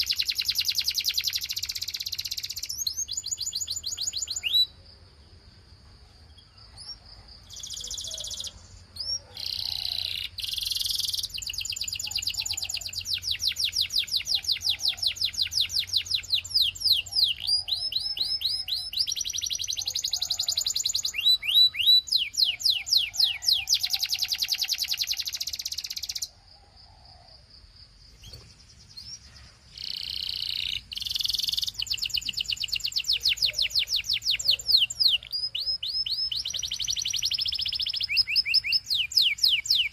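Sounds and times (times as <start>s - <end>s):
canary singing: 0.0s - 5.1s, 6.3s - 27.2s, 28.1s - 39.9s.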